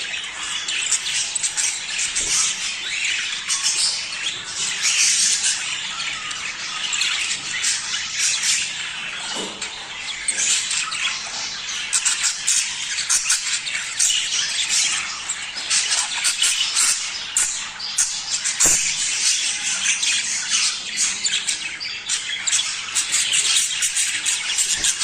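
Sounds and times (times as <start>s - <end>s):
budgerigars chattering: 0.0s - 25.0s.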